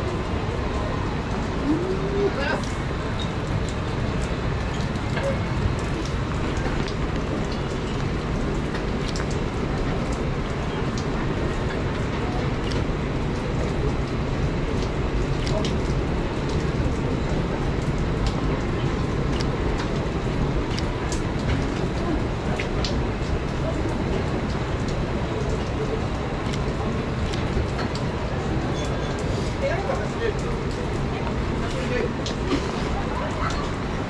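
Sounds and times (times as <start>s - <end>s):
heavy rain rushing: 0.0s - 34.0s
rain drops ticking: 0.0s - 34.0s.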